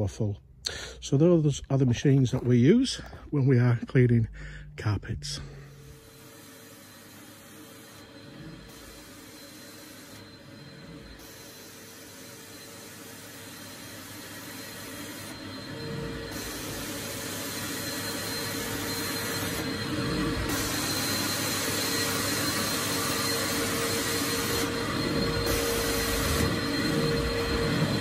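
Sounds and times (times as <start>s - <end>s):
vacuum motors whining: 5.4s - 28.0s.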